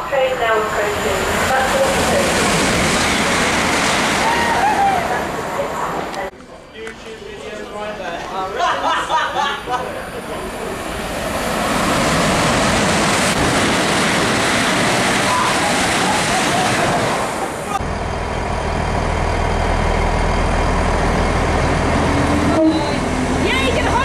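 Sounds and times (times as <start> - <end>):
train passing rushing noise: 0.0 - 6.3, 9.8 - 24.0
train low hum: 0.0 - 24.0.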